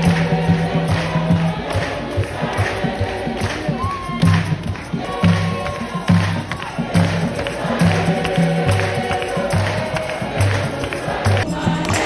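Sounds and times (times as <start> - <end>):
choir singing a hymn: 0.0 - 12.0
hand clapping: 0.0 - 12.0.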